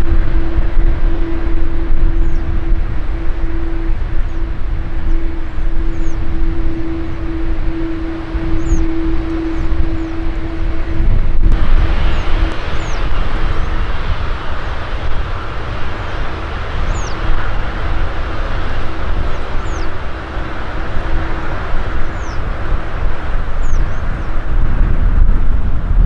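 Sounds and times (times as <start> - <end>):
high falling chirps: 0.0 - 24.3
faint steady hum: 0.0 - 26.0
jet engines roaring: 0.0 - 26.0.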